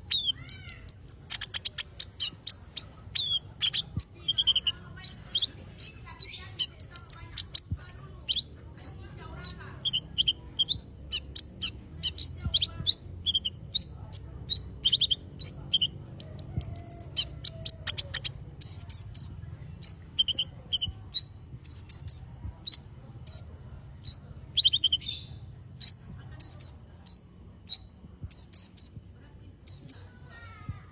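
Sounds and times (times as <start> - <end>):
songbird chirping and whistling: 0.0 - 29.0, 29.6 - 30.4.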